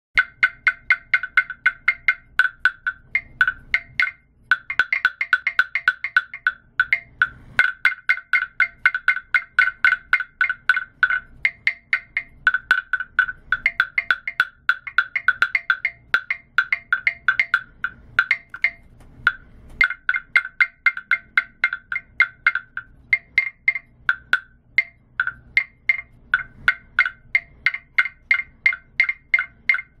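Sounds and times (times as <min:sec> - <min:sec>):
wooden noisemaker rattling clacks: 0:00.2 - 0:30.0.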